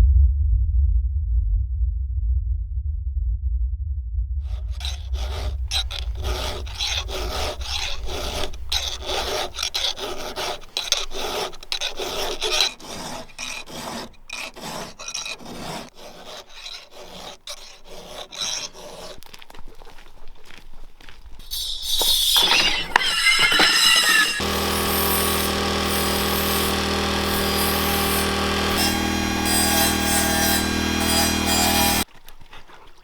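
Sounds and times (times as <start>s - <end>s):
rasping file strokes: 4.5s - 20.1s, 21.4s - 33.0s.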